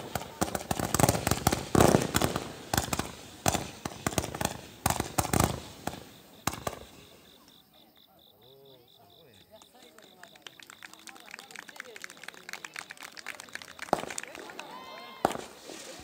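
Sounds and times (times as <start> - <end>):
fireworks bangs and crackles: 0.0 - 7.5, 9.6 - 16.0.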